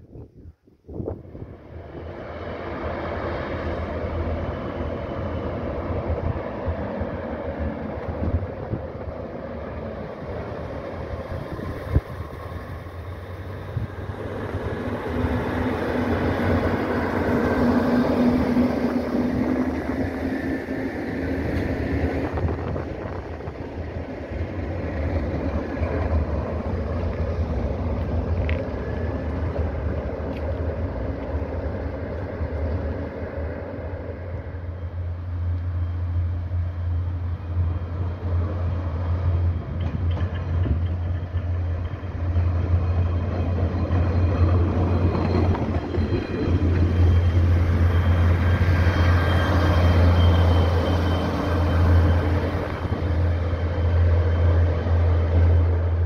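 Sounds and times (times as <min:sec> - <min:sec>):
rack railcar passing: 0:00.9 - 0:56.0
train approaching: 0:00.9 - 0:56.0.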